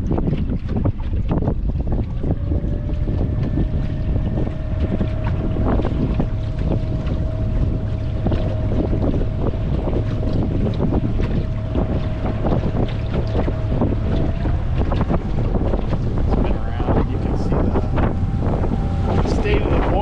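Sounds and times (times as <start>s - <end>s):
water knocking against wooden boat: 0.0s - 20.0s
wind buffeting microphone: 0.0s - 20.0s
thin whine: 2.1s - 20.0s.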